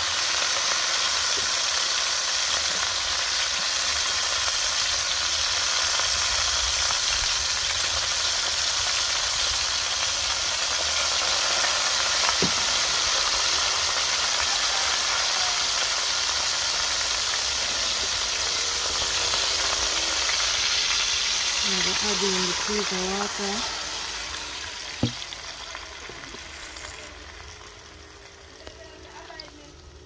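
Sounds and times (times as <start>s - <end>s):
chicken sizzling in a pot: 0.0s - 30.0s.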